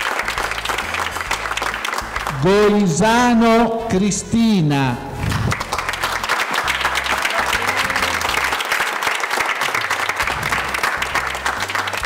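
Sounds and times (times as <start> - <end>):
crowd applauding: 0.0 - 3.0, 5.2 - 12.0
music playing: 0.0 - 12.0.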